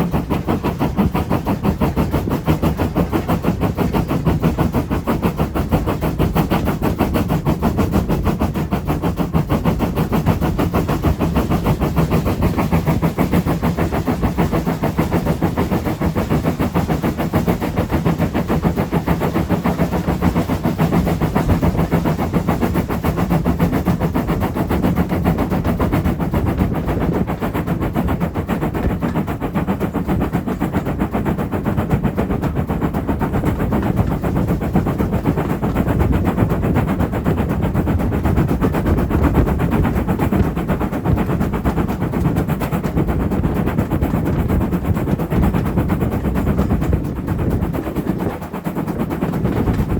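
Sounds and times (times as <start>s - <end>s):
steam train rapid clatter: 0.0s - 49.9s.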